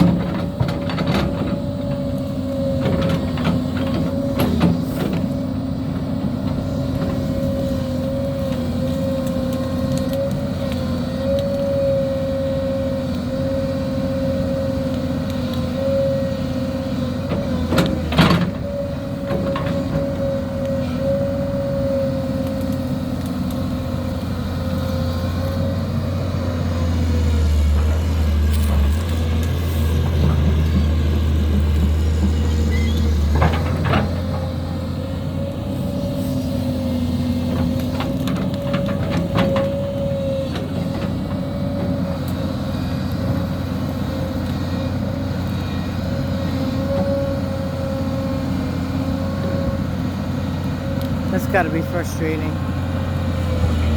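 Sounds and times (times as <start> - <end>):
heavy machinery engine whine: 0.0 - 53.9.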